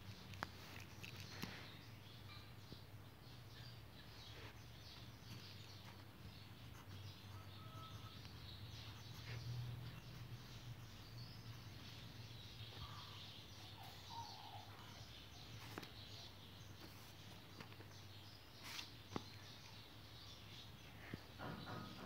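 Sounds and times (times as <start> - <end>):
faint background hum: 0.0 - 22.0
faint chirps: 0.6 - 22.0.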